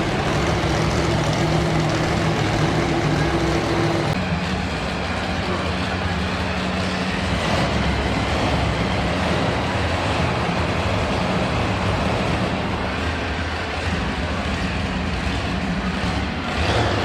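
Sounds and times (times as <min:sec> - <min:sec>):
monster truck engine running: 0:00.0 - 0:17.0.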